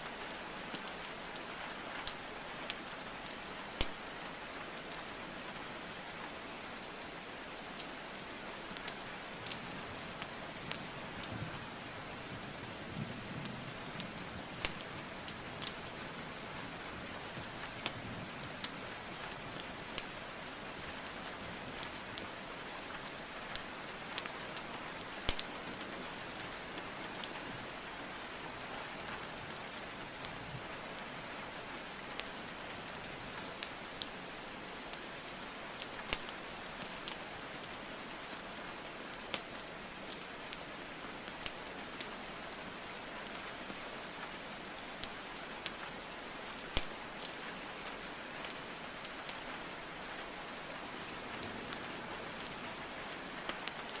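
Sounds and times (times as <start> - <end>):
rain hiss: 0.0 - 54.0
wood fire crackling: 0.3 - 13.1, 13.7 - 50.4, 51.0 - 54.0.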